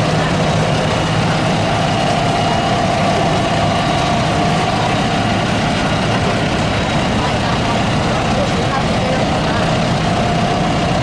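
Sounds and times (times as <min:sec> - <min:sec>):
diesel tractor engines idling: 0:00.0 - 0:11.0.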